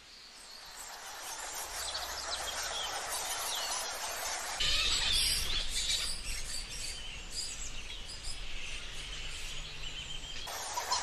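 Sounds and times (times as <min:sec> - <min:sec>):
birds chirping: 0:00.4 - 0:11.0.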